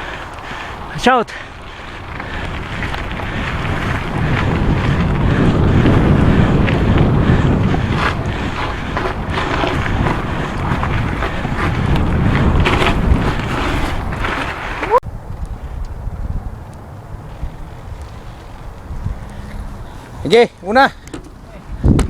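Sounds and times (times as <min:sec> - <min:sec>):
wind buffeting microphone: 0:00.0 - 0:22.0
bike clicks and knocks: 0:01.6 - 0:19.7, 0:21.0 - 0:22.0.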